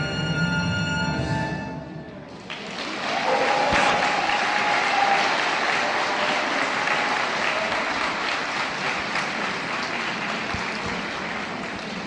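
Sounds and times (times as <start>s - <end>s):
audience applauding: 2.3s - 12.0s.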